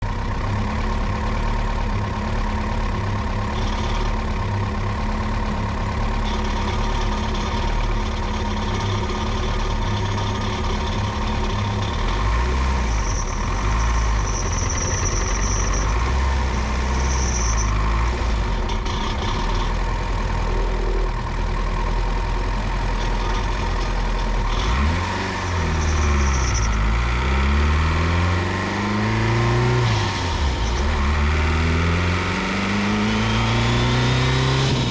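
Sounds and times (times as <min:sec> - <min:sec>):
turbocharged car engine revving: 0:00.0 - 0:34.9.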